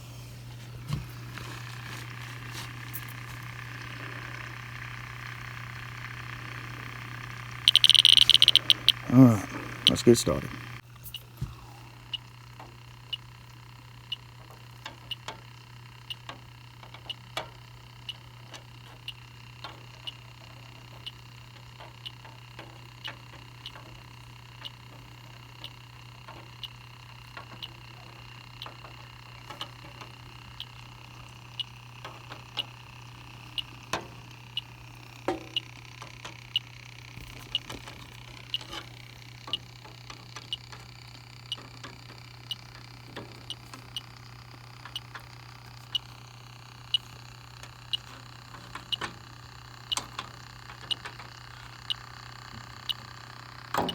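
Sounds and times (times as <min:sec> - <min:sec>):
steady low hum: 0:00.0 - 0:53.9
leak detector ticking: 0:00.8 - 0:53.9.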